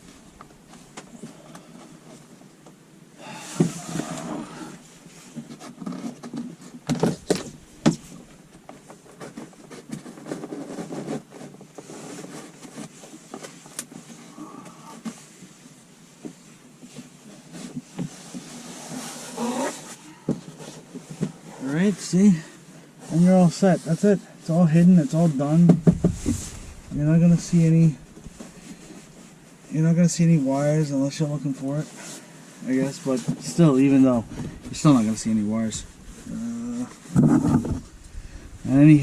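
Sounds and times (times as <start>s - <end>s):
rustling of trim and wiring: 3.6s - 14.3s, 14.9s - 39.0s.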